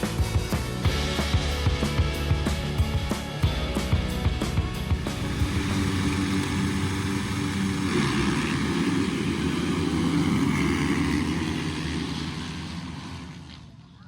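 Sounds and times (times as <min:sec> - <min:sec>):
dirt bike engines racing: 0:00.0 - 0:14.0.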